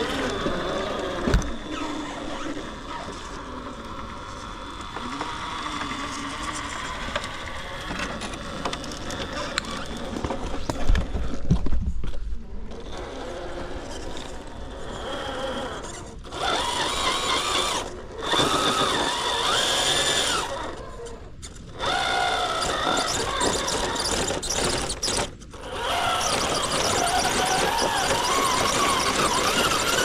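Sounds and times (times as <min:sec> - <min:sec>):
electric motor and gears whining: 0:00.0 - 0:30.0.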